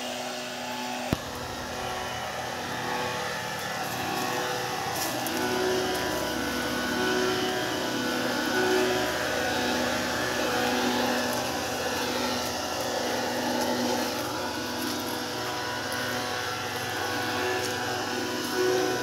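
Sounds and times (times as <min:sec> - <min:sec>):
sprayer blower fan whirring: 0:00.0 - 0:19.0.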